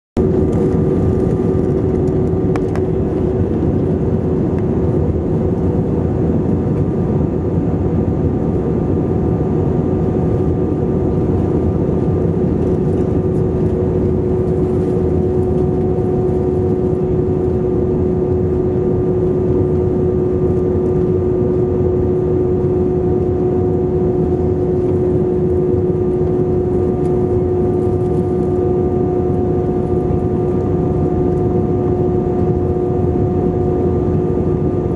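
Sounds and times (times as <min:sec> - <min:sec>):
airplane cabin engine rush: 0:00.2 - 0:34.9
steady pitched hum: 0:00.2 - 0:34.9.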